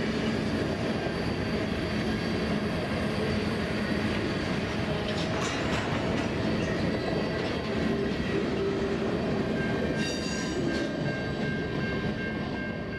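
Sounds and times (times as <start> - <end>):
steel train wheels rumbling on rail: 0.0 - 12.9.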